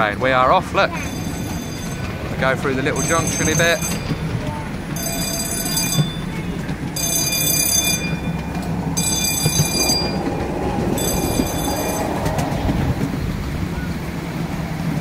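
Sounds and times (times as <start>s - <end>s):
railway car rumbling on track: 0.0s - 15.0s.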